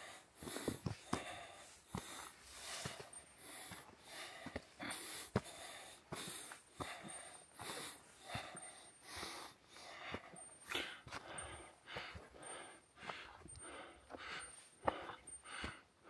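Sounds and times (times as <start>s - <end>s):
person breathing hard: 0.0s - 16.0s
clicks of footsteps or trekking poles: 0.4s - 15.9s.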